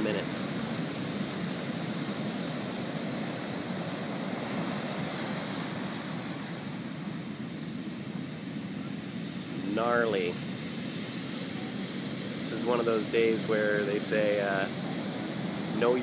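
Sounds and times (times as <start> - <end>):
heavy ocean surf breaking: 0.0 - 16.0.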